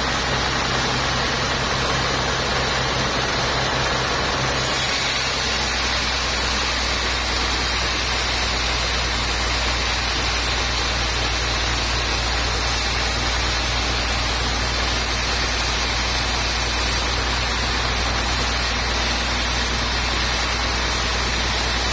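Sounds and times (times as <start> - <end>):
sawmill machinery humming and hissing: 0.0 - 21.9.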